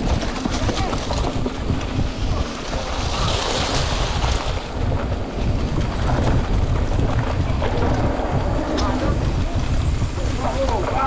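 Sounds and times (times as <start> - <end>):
tyre noise on trail: 0.0 - 11.0
wind buffeting microphone: 0.0 - 11.0.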